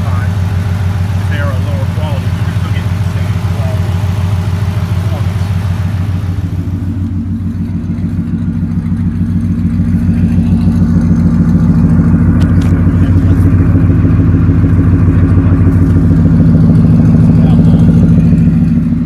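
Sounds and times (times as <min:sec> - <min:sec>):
car engine deep exhaust note: 0:00.0 - 0:19.0.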